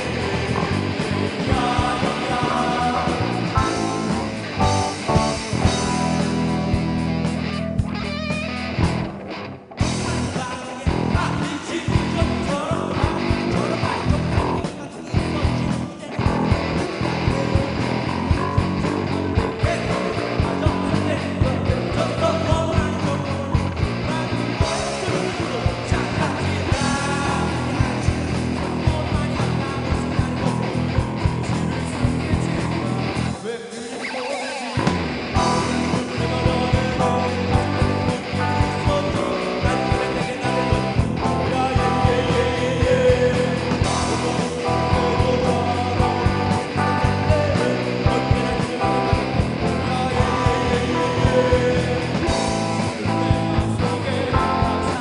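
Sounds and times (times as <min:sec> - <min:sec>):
steady drum beat: 0:00.0 - 0:09.2, 0:09.8 - 0:33.4, 0:34.9 - 0:55.0
electric guitar: 0:00.0 - 0:55.0
live band music: 0:00.0 - 0:55.0.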